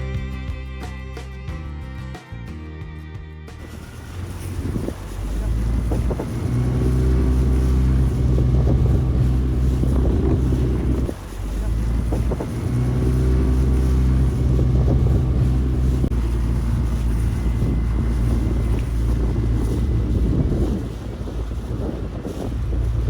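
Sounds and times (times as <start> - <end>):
boat engine running: 3.5 - 23.0
wind noise on microphone: 3.6 - 23.0.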